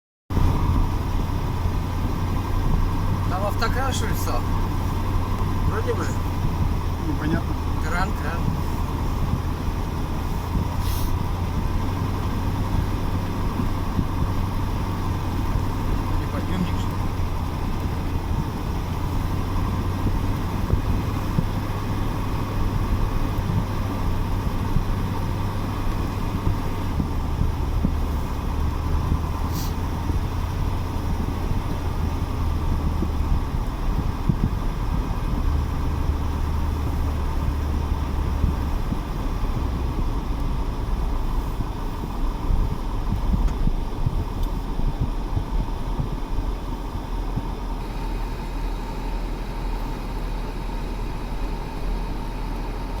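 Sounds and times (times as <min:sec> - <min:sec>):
truck crane engine droning: 0:00.3 - 0:53.0.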